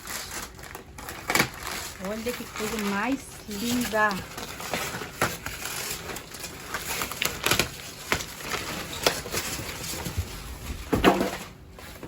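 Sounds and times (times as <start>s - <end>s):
packaging rustling: 0.0s - 12.0s
knocks and taps unpacking: 0.6s - 12.0s.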